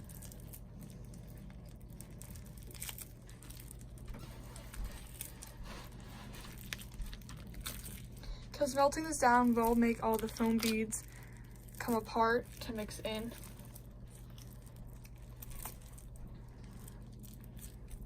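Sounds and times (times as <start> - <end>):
slime squishing by hand: 0.0 - 18.0.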